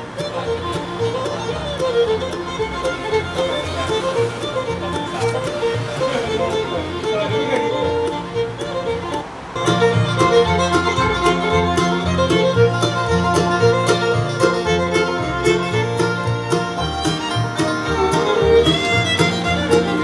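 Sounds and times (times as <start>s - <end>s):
country fiddle and guitar music: 0.0s - 20.0s.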